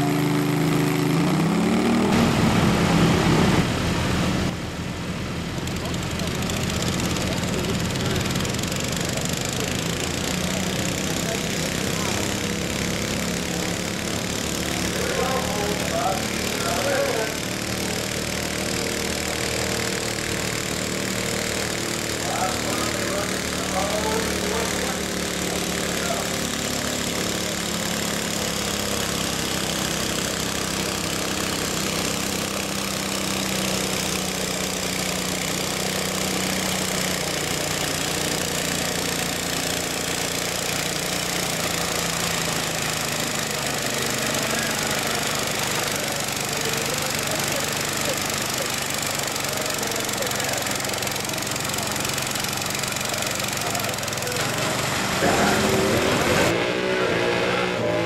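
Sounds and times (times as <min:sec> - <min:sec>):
lawn mower engine under load: 0:00.0 - 0:58.0.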